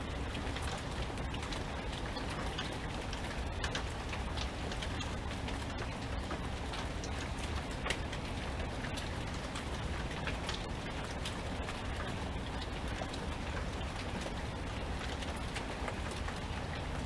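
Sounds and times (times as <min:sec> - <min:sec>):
raindrops hitting a surface: 0:00.0 - 0:17.0
steady rainfall hiss: 0:00.0 - 0:17.0.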